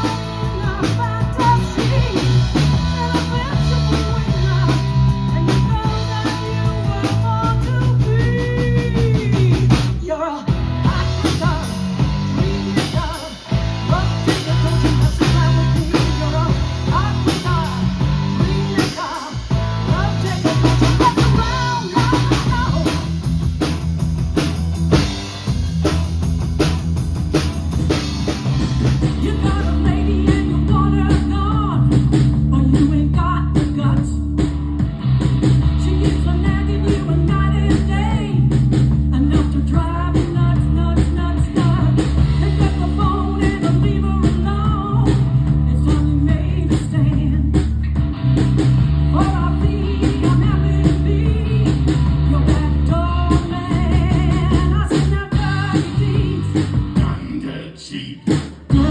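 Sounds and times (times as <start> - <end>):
live rock band playing: 0.0 - 57.4, 58.2 - 58.9.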